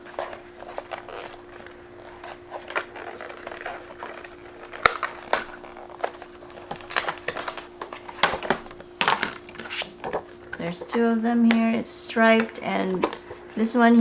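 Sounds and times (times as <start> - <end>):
plastic packaging rustling: 0.0 - 11.6.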